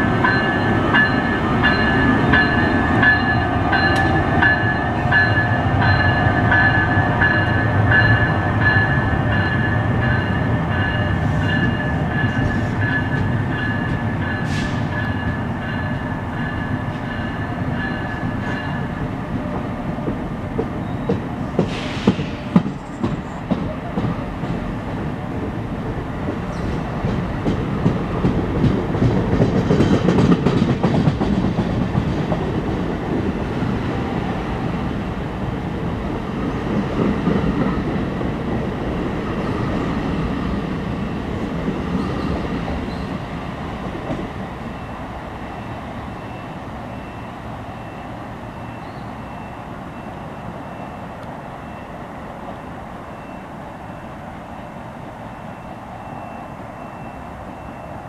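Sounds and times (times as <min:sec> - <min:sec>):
train coaches rumbling past: 0:00.0 - 0:58.0.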